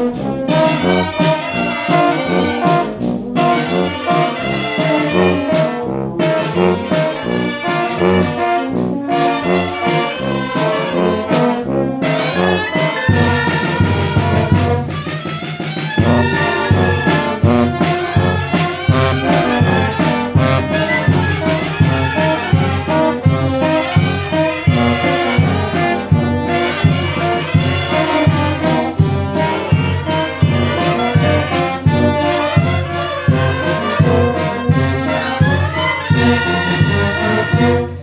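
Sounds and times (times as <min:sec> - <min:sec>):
snare drum: 0:00.0 - 0:38.0
wind band playing lively tune: 0:00.0 - 0:38.0.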